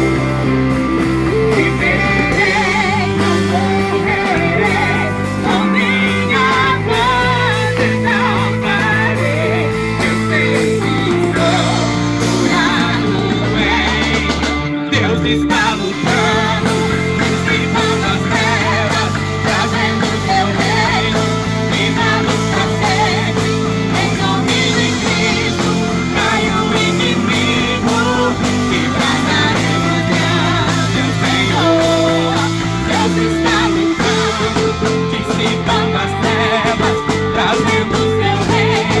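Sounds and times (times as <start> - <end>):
instrumental worship music with guitar: 0.0 - 39.0.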